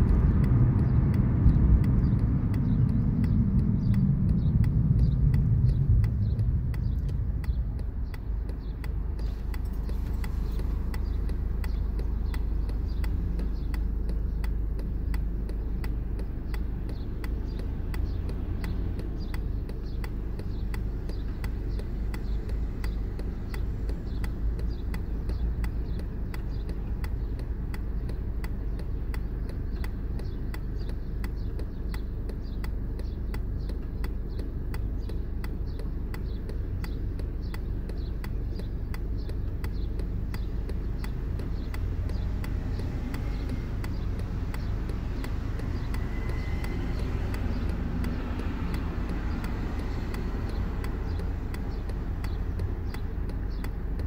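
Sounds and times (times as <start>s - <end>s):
car engine and road noise: 0.0s - 54.0s
faint regular ticking: 0.0s - 54.0s.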